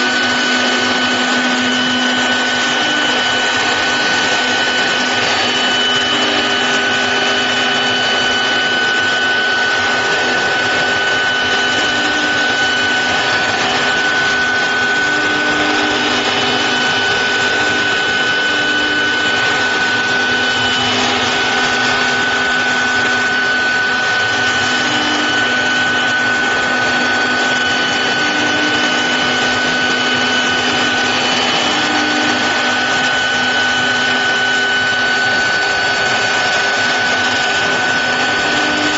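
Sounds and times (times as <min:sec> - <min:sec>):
constant rushing noise: 0:00.0 - 0:38.9
router spindle whine: 0:00.0 - 0:38.9.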